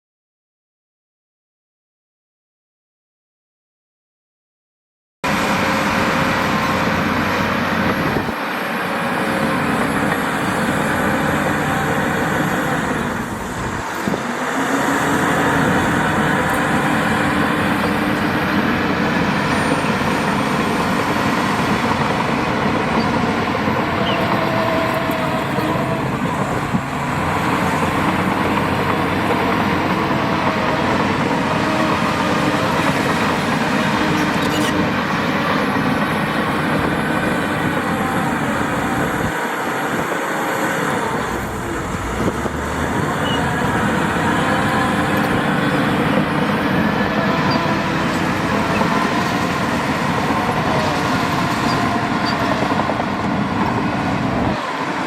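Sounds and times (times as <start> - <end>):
heavy machinery diesel engines: 5.2 - 55.0.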